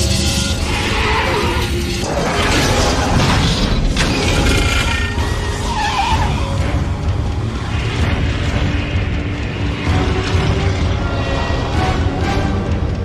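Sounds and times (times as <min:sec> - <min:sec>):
action film music score: 0:00.0 - 0:13.0.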